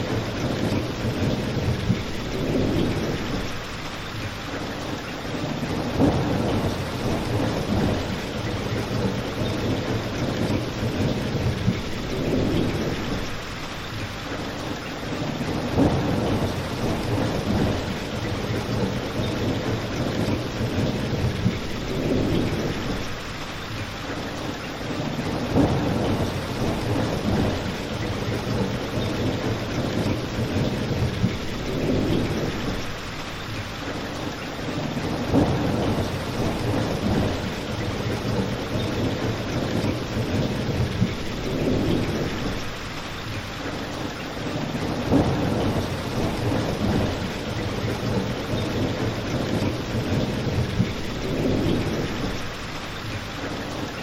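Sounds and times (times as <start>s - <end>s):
rain falling outside windows: 0.0s - 54.0s.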